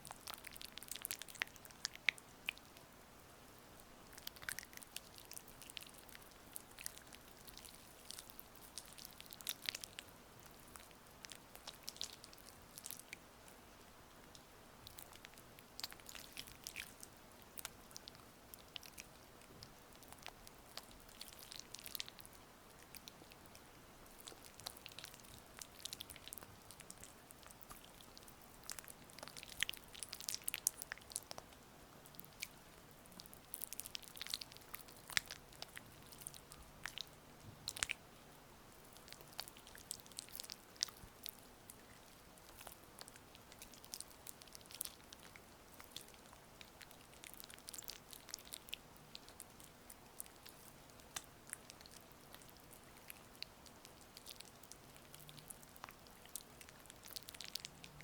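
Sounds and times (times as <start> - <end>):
faint steady rain: 0.0 - 58.0.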